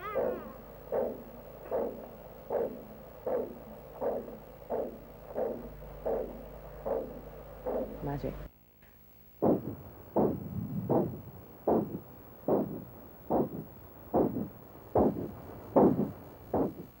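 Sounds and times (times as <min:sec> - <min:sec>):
rhythmic whooshing womb pulses: 0:00.0 - 0:08.5, 0:09.4 - 0:17.0.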